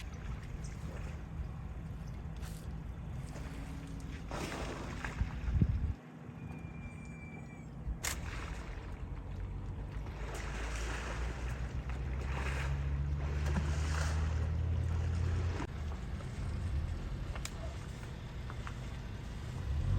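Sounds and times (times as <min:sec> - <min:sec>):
low steady rumble: 0:00.0 - 0:19.9
water splashing and sloshing: 0:00.0 - 0:19.9.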